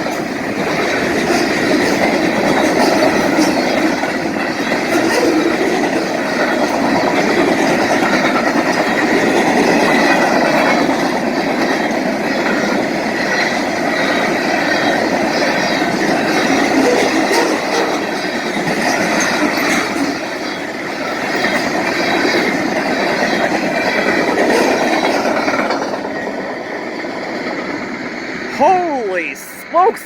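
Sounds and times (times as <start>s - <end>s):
freight train wheels rumbling on rail: 0.0s - 30.0s.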